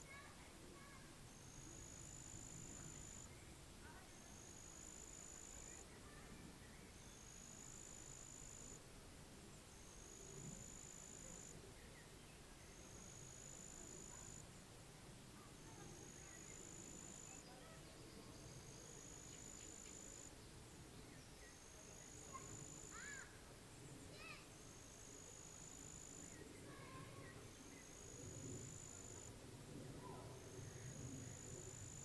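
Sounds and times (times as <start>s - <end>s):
low background hiss: 0.0s - 32.0s.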